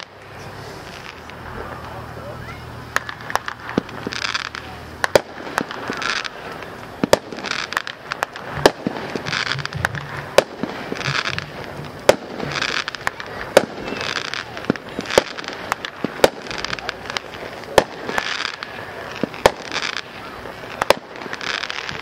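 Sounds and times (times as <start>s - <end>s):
fireworks bangs: 0.0s - 22.0s
fireworks hissing crackling bursts: 0.0s - 22.0s.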